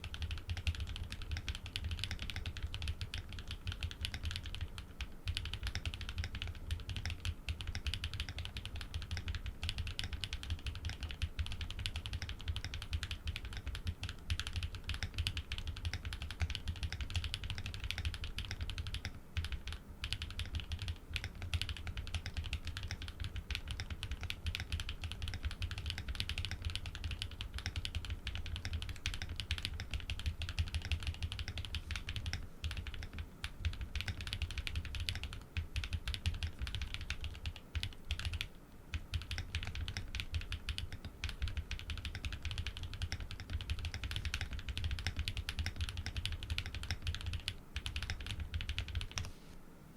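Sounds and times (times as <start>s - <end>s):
fast mechanical keyboard typing: 0.0s - 49.3s.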